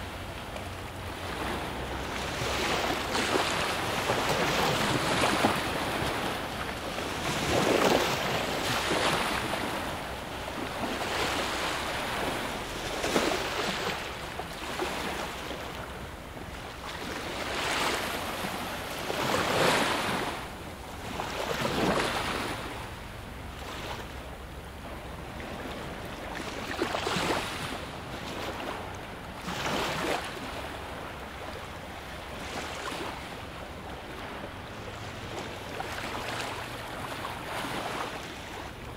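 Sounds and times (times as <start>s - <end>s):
waves lapping on stony shore: 0.0s - 38.9s.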